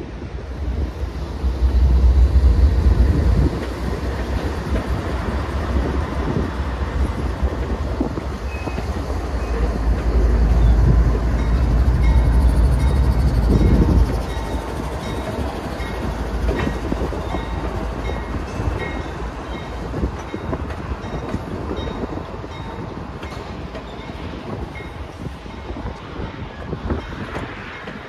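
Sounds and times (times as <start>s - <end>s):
diesel locomotive engines rumbling: 0.0s - 28.0s
train wheels rumbling on rails: 0.0s - 28.0s.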